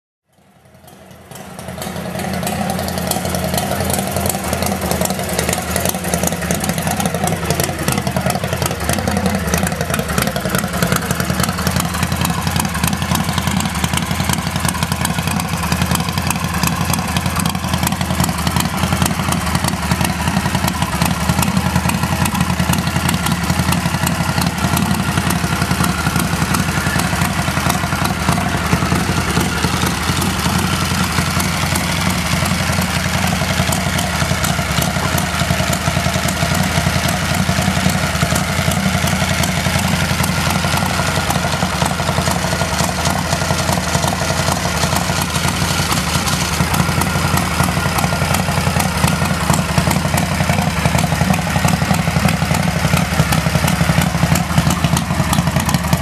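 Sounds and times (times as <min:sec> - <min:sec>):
motorcycle engine idling: 0:00.3 - 0:56.0.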